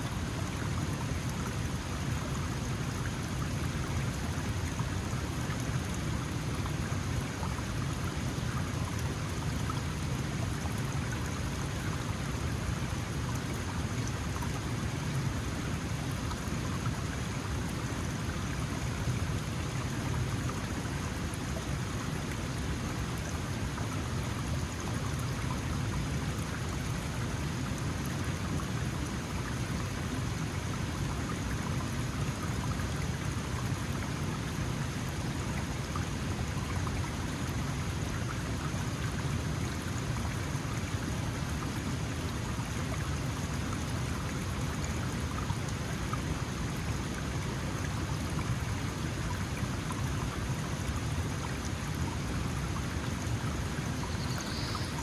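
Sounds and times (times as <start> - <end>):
mountain stream flowing: 0.0 - 55.0.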